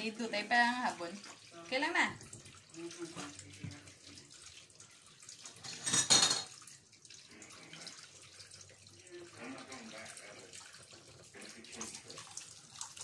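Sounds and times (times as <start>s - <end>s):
water rushing at sink: 0.0s - 13.0s.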